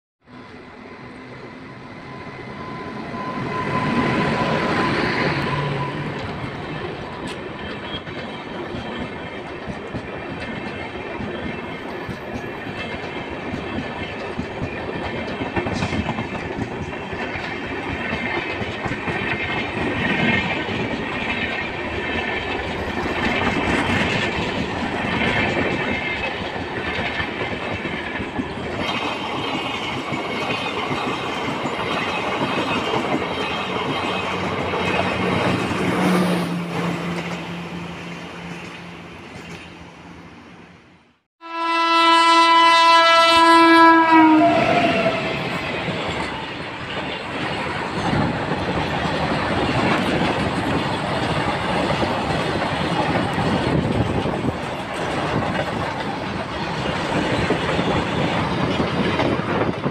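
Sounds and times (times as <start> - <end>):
train wheel rumble: 0.3 - 40.2, 42.8 - 59.9
electric locomotive passing: 0.3 - 59.9
clickety-clack over rail joints: 3.7 - 37.6, 43.8 - 59.9.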